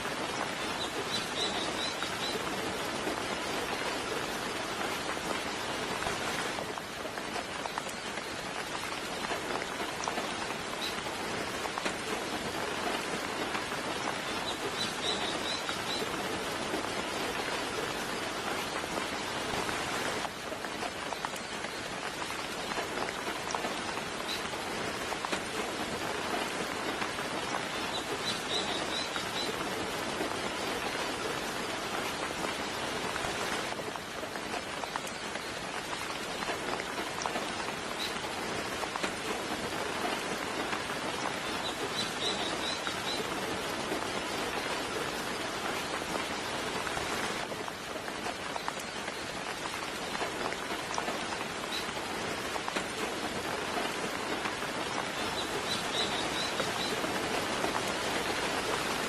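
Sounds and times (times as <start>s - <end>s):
soft steady rainfall: 0.0s - 59.0s.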